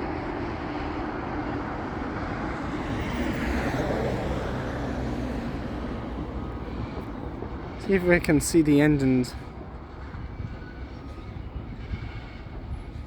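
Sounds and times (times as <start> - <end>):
freight train wheels rattling: 0.1 - 13.0.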